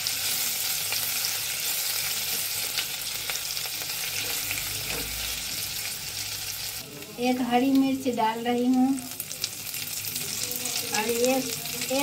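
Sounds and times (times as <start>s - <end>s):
garlic and ginger sizzling in oil: 0.0s - 12.0s.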